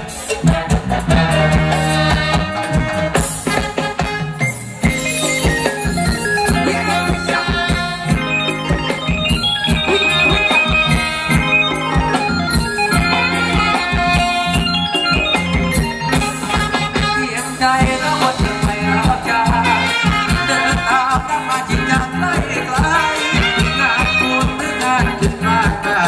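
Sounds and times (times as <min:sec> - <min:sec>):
bass: 0:00.0 - 0:26.0
drum kit: 0:00.0 - 0:26.0
electronic keyboard melody: 0:00.0 - 0:26.0.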